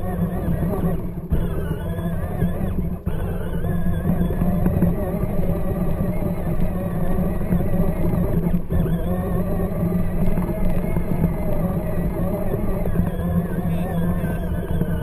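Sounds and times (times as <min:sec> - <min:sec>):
low hum: 0:00.0 - 0:15.0
toy tractor motors whining: 0:00.0 - 0:15.0.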